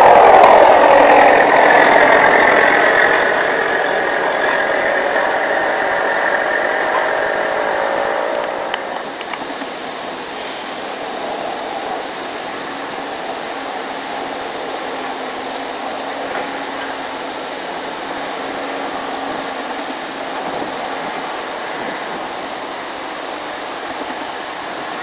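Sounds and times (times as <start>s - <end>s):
steady rushing hiss: 0.0s - 25.0s.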